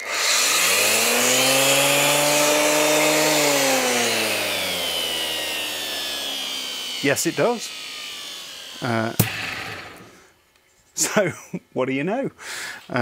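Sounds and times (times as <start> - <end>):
electric sander whining: 0.0 - 10.4.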